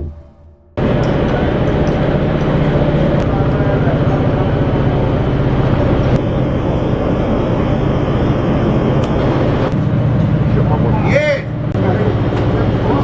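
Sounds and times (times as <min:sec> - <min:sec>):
loud pulsing engine drone: 0:00.0 - 0:13.0.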